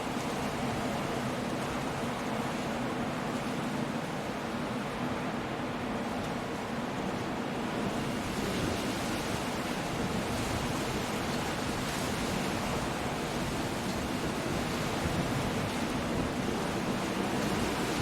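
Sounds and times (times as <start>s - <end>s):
waves breaking on shore: 0.0s - 18.0s
wind: 0.0s - 18.0s.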